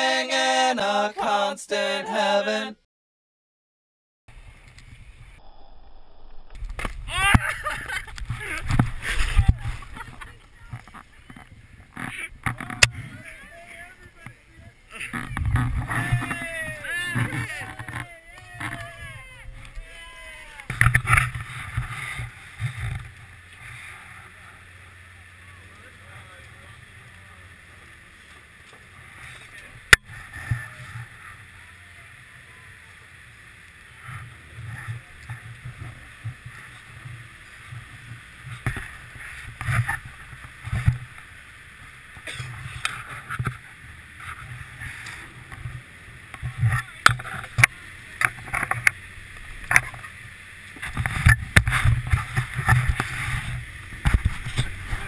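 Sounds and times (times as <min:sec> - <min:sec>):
chairlift low rumble: 0:04.3 - 0:55.0.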